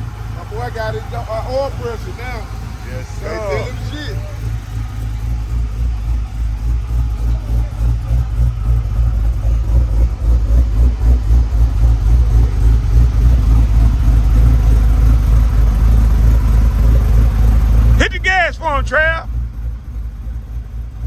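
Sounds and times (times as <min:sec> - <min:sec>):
engine lumpy idle: 0:00.0 - 0:21.0.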